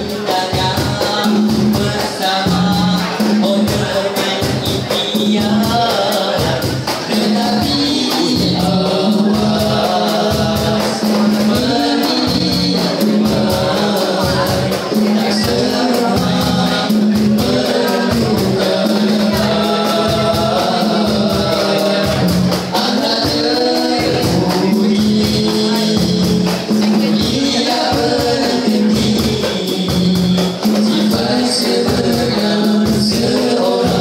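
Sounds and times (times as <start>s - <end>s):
boys singing in harmony: 0.0s - 34.0s
rapid percussion beat: 0.0s - 34.0s.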